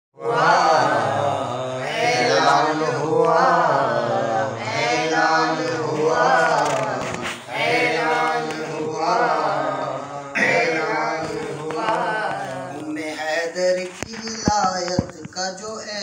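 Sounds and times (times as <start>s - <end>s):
man chanting: 0.2s - 16.0s.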